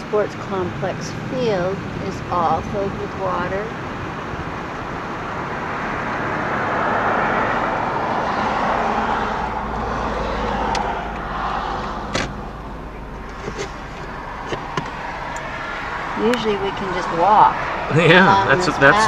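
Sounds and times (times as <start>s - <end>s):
car tyre noise passing: 0.0s - 19.0s.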